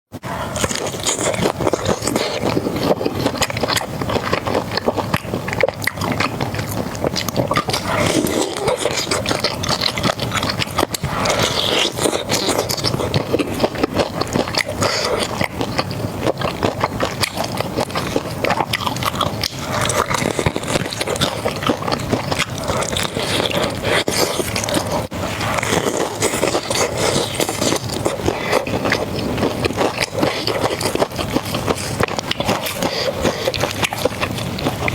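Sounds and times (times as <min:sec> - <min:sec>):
crunching and chewing crispy food: 0:00.2 - 0:34.9.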